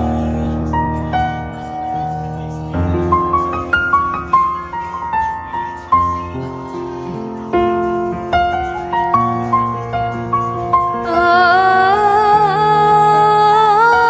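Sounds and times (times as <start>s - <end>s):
slow piano notes: 0.0s - 14.0s.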